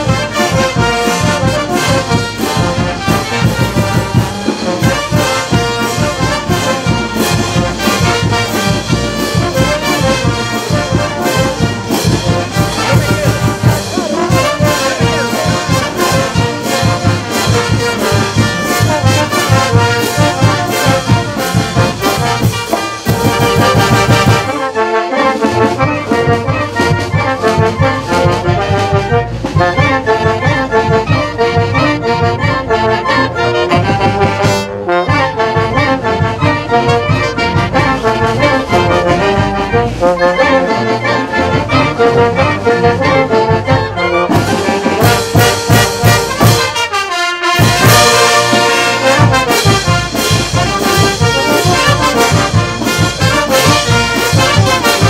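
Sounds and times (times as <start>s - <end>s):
steady drum beat: 0.0s - 55.0s
trumpets and trombones: 0.0s - 55.0s.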